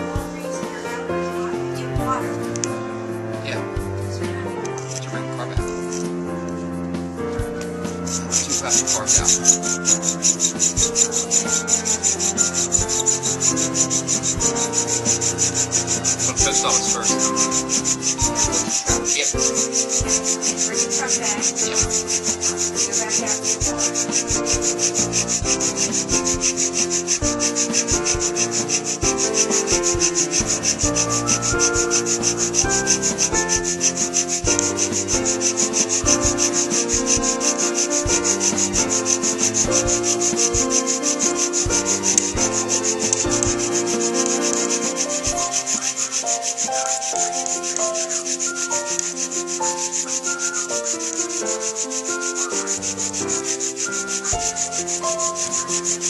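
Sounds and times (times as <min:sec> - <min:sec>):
wooden spindle rubbing on board: 0:07.4 - 0:56.0.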